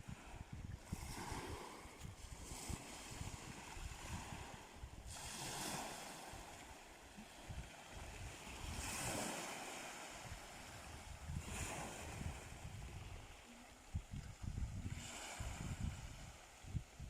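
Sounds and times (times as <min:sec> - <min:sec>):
waves breaking: 0:00.0 - 0:17.0
wind buffeting microphone: 0:00.0 - 0:17.0.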